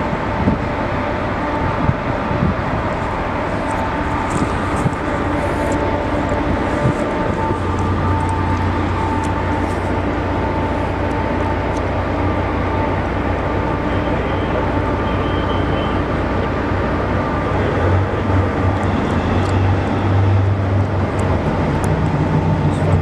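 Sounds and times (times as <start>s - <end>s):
wind and water rushing: 0.0s - 15.0s, 15.9s - 23.0s
motorboat engine humming: 0.0s - 23.0s.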